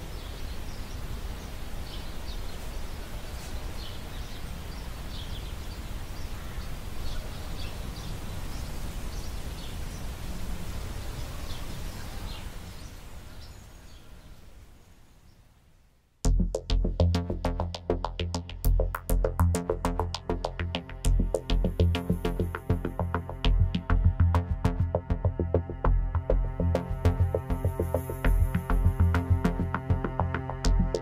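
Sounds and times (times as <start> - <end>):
birds chirping: 0.0 - 15.6, 16.4 - 31.0
steady low rumble and hiss: 0.0 - 31.0.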